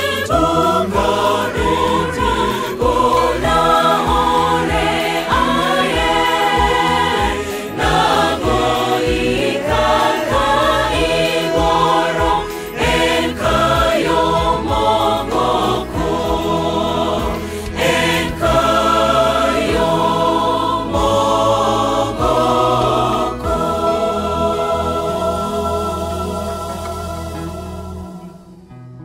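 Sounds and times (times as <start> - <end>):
choir singing a hymn: 0.0 - 28.6.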